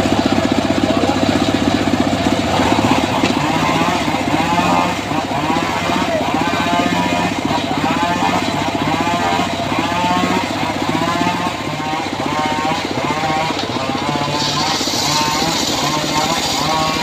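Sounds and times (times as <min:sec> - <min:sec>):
sawmill engine whining: 0:00.0 - 0:17.0.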